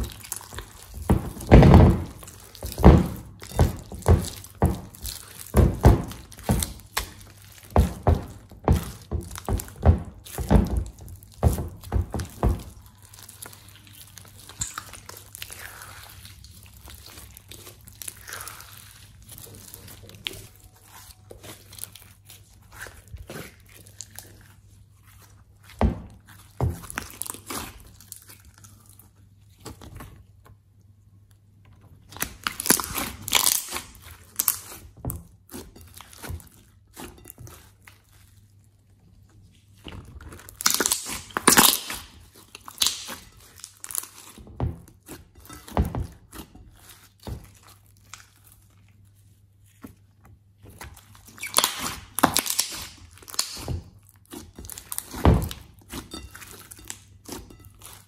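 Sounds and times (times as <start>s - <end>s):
slime crackling and popping squelches: 0.0s - 58.0s.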